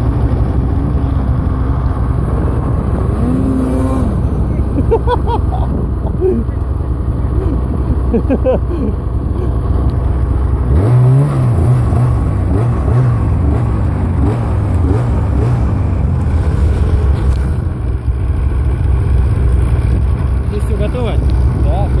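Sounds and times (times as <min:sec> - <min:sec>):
snowmobile engine revving: 0:00.0 - 0:22.0.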